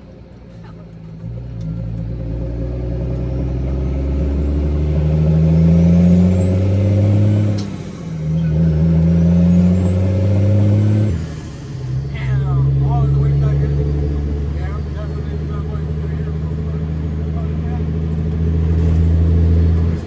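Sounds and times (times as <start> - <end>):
diesel truck accelerating: 0.0 - 20.0.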